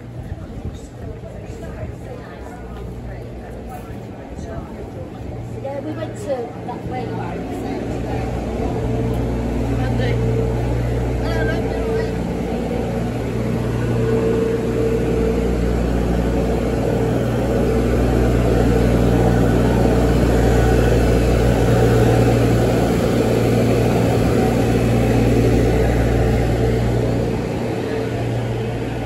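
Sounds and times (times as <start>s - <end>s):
street sweeper engine and fan humming: 0.0s - 29.0s.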